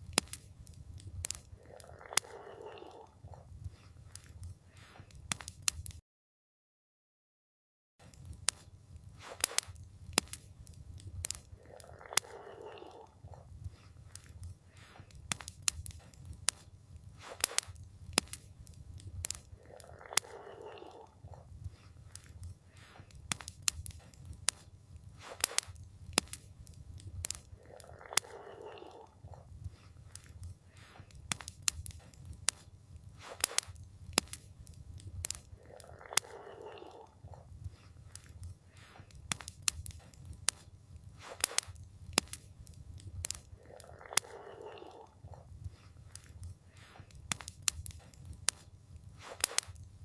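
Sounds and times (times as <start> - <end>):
low fire rumble: 0.0 - 5.9, 8.0 - 50.0
campfire crackling and popping: 0.0 - 6.0, 8.0 - 50.0.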